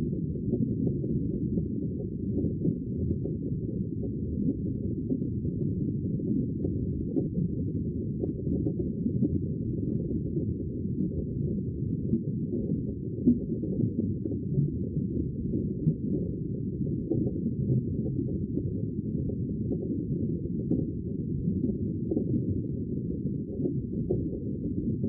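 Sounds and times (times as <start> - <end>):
muffled sea water rumble: 0.0 - 25.0.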